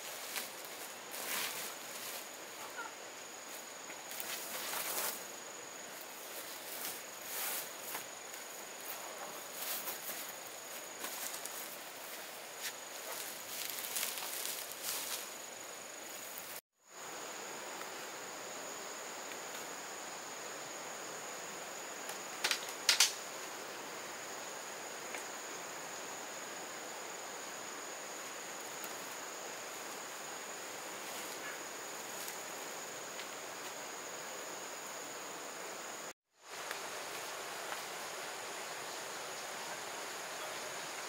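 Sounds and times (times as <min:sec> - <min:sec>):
high insect-like tone: 0:00.0 - 0:41.0
outdoor hiss: 0:00.0 - 0:41.0.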